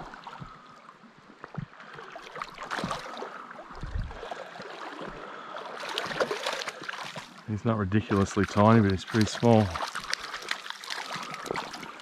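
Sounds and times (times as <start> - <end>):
stream water sloshing: 0.0 - 12.0
small splashes: 1.5 - 12.0.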